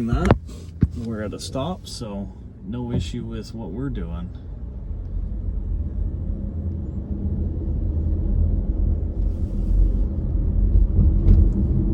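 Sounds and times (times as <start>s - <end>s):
car engine and road noise: 0.0s - 11.9s.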